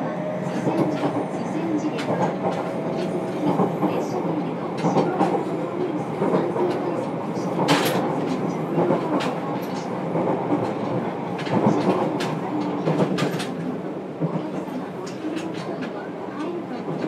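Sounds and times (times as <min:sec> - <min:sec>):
train wheels and traction rumble: 0:00.0 - 0:17.0.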